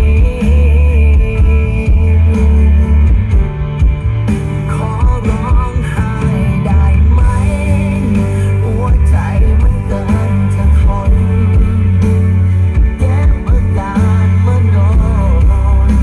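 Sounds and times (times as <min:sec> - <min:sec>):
song over loud pa system: 0:00.0 - 0:16.0.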